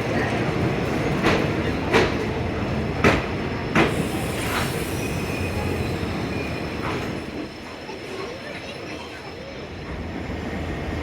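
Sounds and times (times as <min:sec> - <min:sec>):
train coach rumbling on track: 0:00.0 - 0:11.0.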